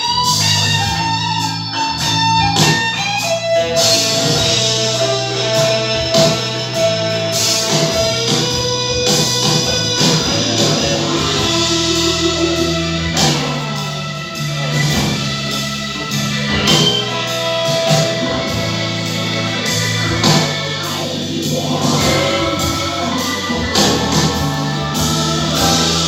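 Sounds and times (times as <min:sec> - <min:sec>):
guitar music with steady beat: 0:00.0 - 0:26.0
person singing: 0:03.8 - 0:26.0.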